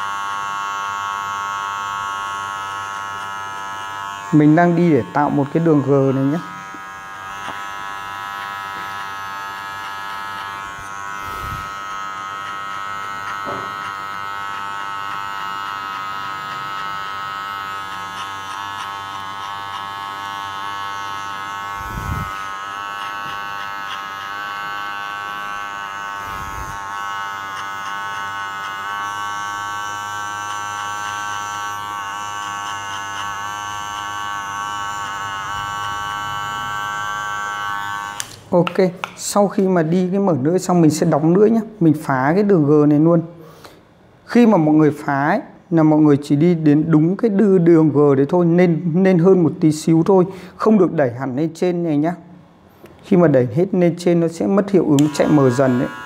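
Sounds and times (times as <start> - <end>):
electric hair clipper buzzing: 0.0 - 45.1, 52.8 - 56.0.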